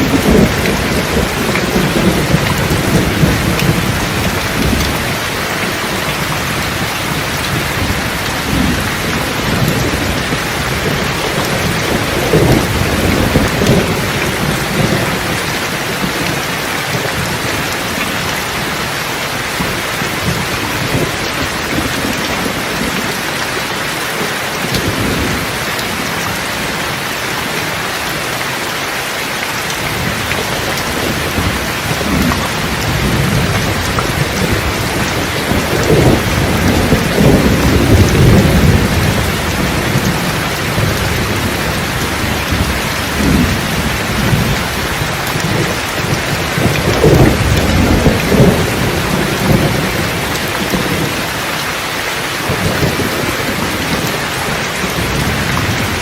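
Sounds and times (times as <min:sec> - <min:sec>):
thunder rumbling: 0:00.0 - 0:28.3, 0:29.6 - 0:56.0
rain hissing: 0:00.0 - 0:56.0.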